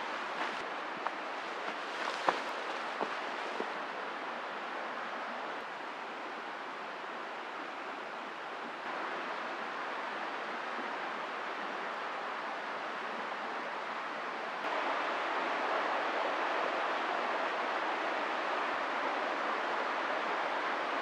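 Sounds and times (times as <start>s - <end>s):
woodland ambience hiss: 0.0s - 21.0s.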